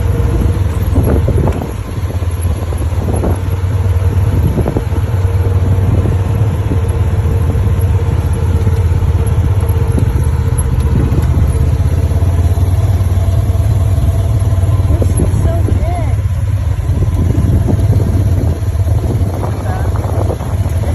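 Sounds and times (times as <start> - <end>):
engine running steady drone: 0.0 - 20.9.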